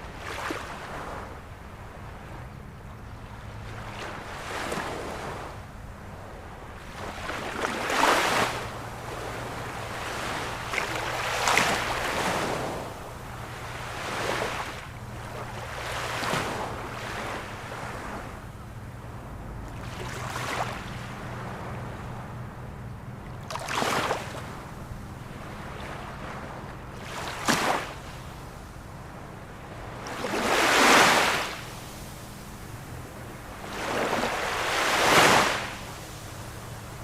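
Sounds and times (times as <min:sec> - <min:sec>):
ocean waves breaking: 0:00.0 - 0:37.0.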